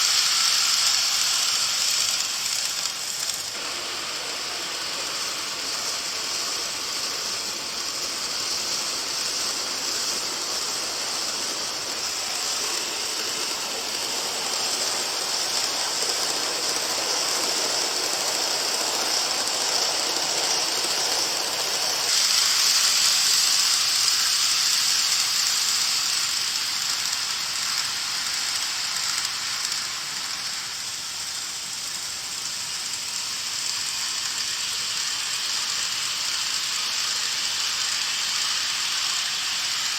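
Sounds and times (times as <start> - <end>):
model train whirring on track: 0.0 - 39.9.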